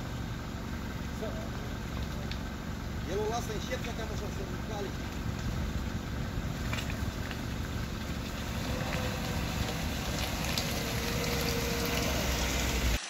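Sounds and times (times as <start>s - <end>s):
engine rumble: 0.0s - 13.0s
tyres squelching in mud: 1.0s - 13.0s.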